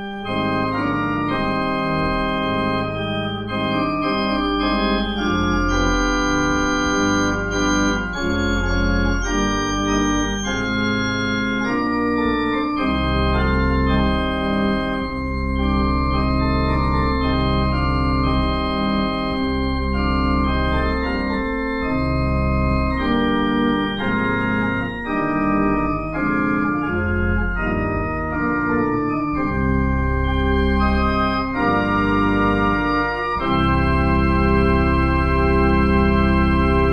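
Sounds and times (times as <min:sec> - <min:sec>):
organ playing slow chords: 0:00.0 - 0:36.9.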